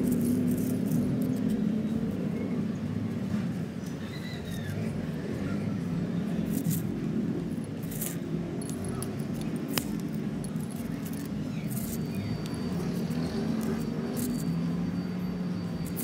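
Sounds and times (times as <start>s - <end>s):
steady low rumble: 0.0s - 4.0s, 4.8s - 15.9s.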